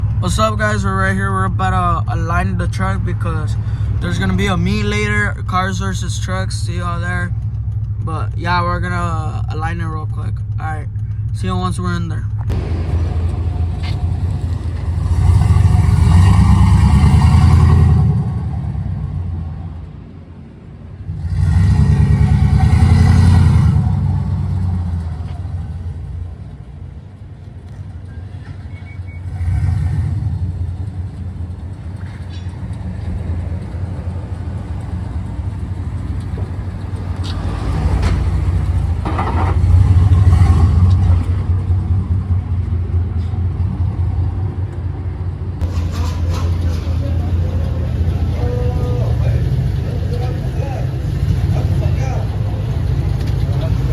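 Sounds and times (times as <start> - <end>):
truck engine accelerating: 0.0 - 53.9.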